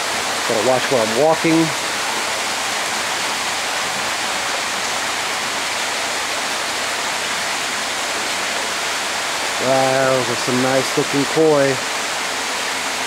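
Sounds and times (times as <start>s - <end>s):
running water in a pool: 0.0s - 13.0s.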